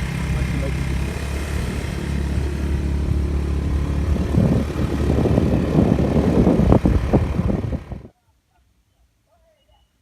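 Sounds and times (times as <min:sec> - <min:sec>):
engine running: 0:00.0 - 0:08.1
rough uneven rumbling: 0:00.0 - 0:08.1.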